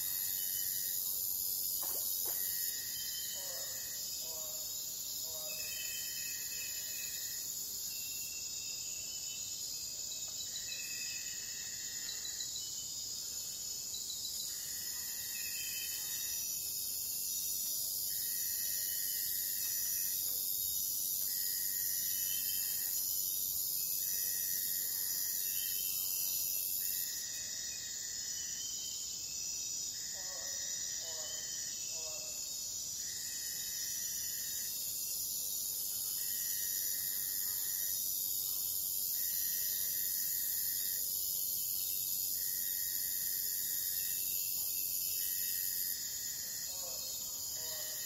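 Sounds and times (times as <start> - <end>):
insect high-pitched trill: 0.0 - 48.0
insect long repeating call: 0.0 - 48.0.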